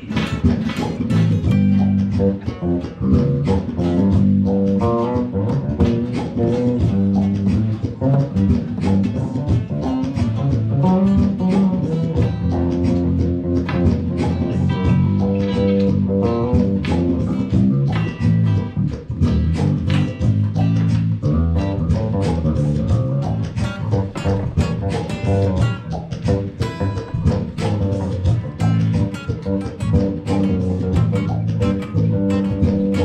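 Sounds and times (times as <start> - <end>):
live band playing instrumental: 0.0 - 33.0.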